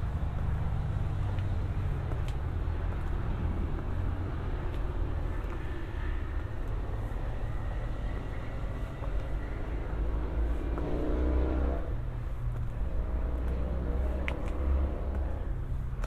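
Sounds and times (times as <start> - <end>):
footsteps on concrete steps: 0.0 - 11.2, 11.8 - 16.0
low rumble: 0.0 - 15.9.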